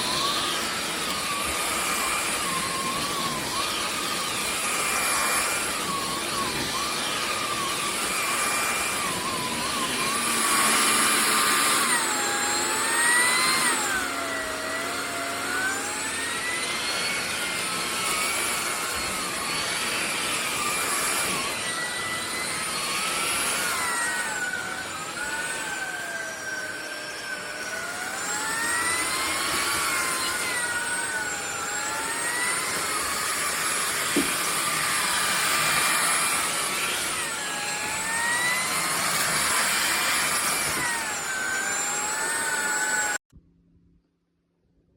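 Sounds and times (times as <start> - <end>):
vacuum motor whining: 0.0 - 43.3.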